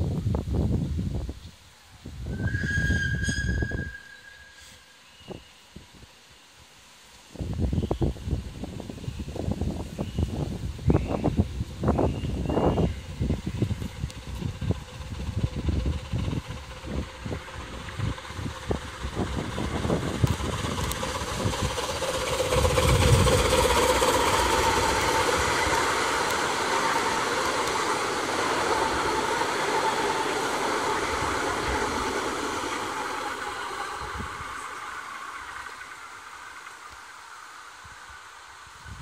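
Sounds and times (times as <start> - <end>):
miniature steam train passing: 0.0 - 39.0.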